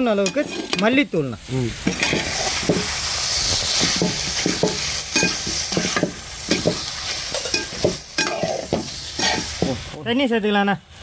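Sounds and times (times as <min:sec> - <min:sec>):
chicken sizzling in a pan: 0:00.0 - 0:11.0
ladle scraping and knocking pan: 0:00.2 - 0:00.9, 0:01.8 - 0:10.0.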